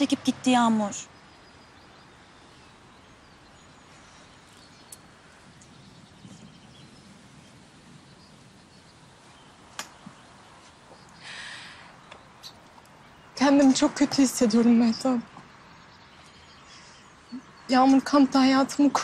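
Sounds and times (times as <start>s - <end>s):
low steady hiss: 0.0s - 19.0s
faint bird chirps: 0.6s - 18.1s.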